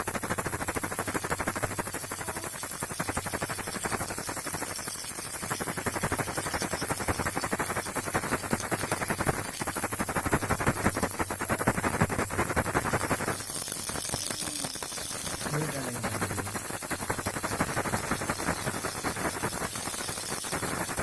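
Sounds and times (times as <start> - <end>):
baby rattle shaking: 0.0 - 21.0.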